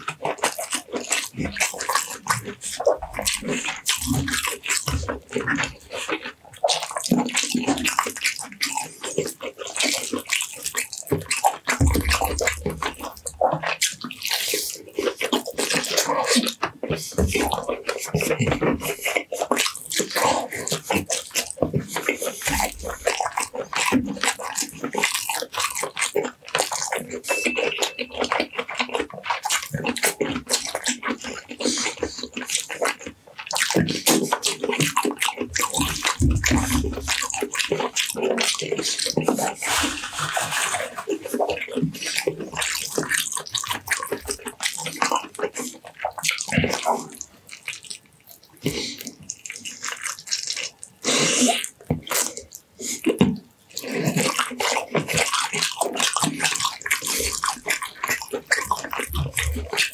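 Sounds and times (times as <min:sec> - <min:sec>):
meat tearing by hand: 0:00.0 - 0:59.9
wet chewing and lip-smacking: 0:00.0 - 0:59.9.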